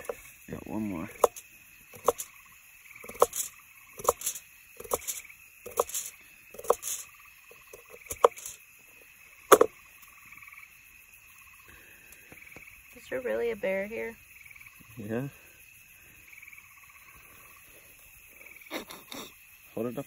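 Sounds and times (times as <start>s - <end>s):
frog croaking: 0.0s - 20.0s
insects trilling: 0.0s - 20.0s.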